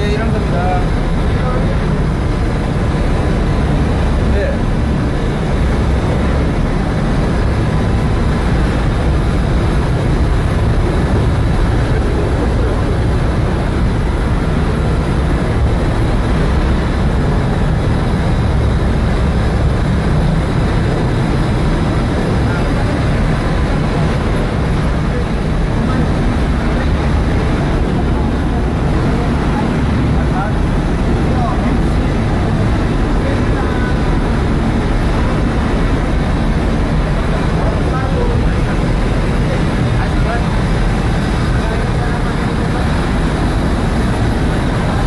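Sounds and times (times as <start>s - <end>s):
faint steady whine: 0.0s - 45.0s
ship engine drone: 0.0s - 45.0s.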